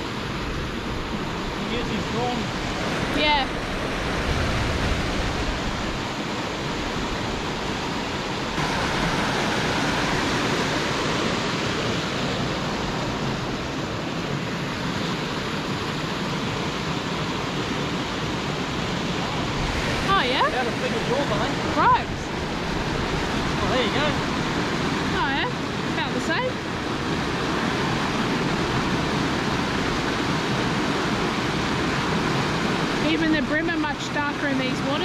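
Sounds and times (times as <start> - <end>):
water rushing over weir: 0.0 - 35.0.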